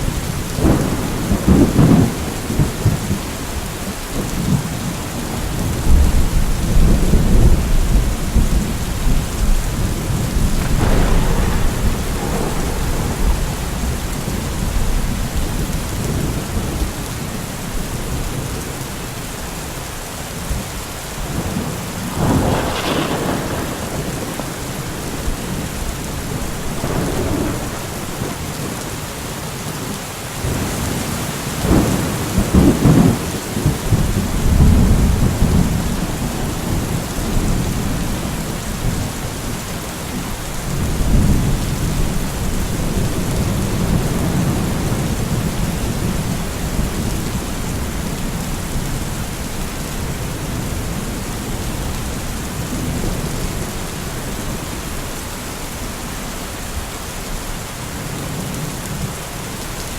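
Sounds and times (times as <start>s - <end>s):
thunder rumbling: 0.0s - 18.6s, 21.2s - 29.0s, 31.6s - 54.8s
steady rain falling: 0.0s - 59.9s.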